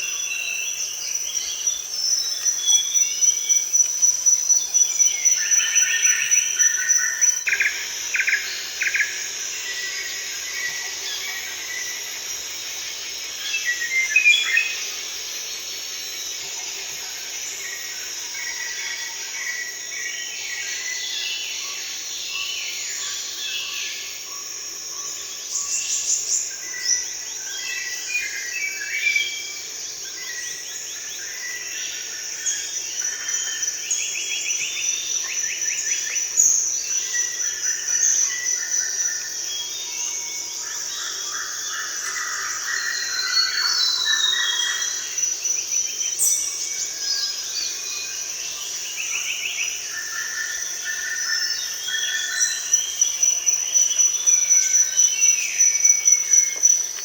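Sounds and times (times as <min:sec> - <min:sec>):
insect drone: 0:00.0 - 0:57.0.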